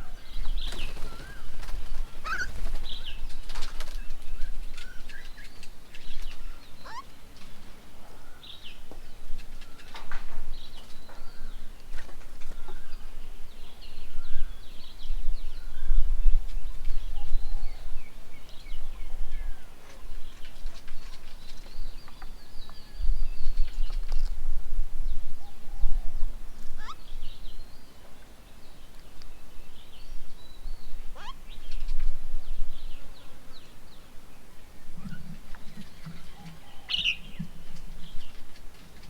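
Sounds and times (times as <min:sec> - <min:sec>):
small birds chirping: 0:00.0 - 0:24.5, 0:26.6 - 0:39.0.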